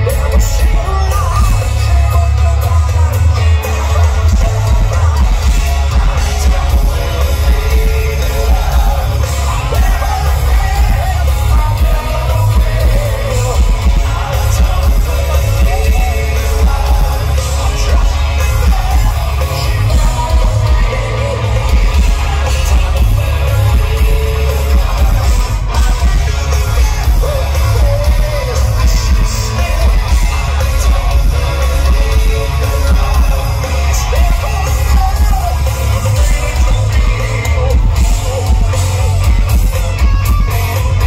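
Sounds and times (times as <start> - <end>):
drums and cymbals: 0.0 - 41.0
electric guitar: 0.0 - 41.0
heavy bass: 0.0 - 41.0
man singing into a microphone: 0.0 - 41.0.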